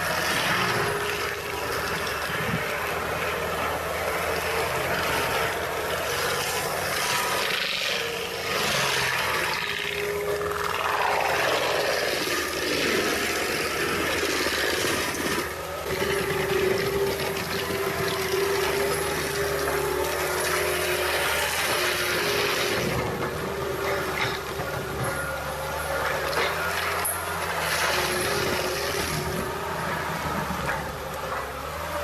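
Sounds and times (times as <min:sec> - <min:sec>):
heavy machinery engine droning: 0:00.0 - 0:32.0.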